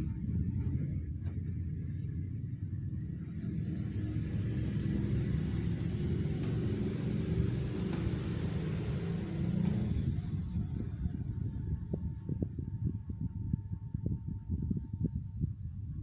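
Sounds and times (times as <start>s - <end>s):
ceiling fan running: 0.0s - 16.0s.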